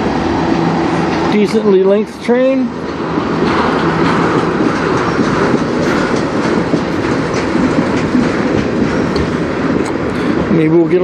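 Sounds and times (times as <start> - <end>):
freight cars rumbling and rattling: 0.0 - 11.0
train wheels clacking on rail joints: 0.4 - 11.0.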